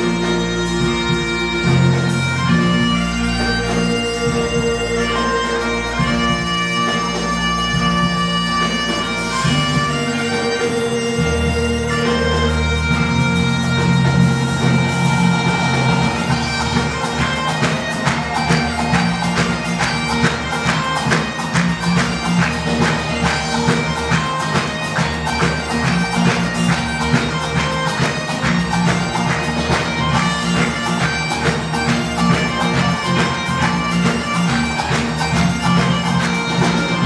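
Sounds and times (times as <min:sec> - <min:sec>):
bagpipe dance tune: 0:00.0 - 0:37.0.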